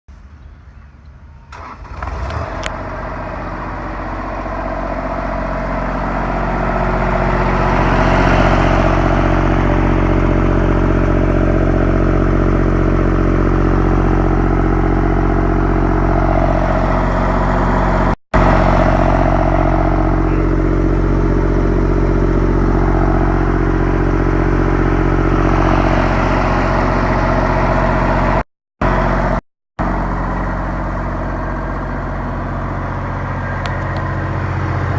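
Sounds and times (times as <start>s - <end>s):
engine starting and running: 0.2s - 34.9s.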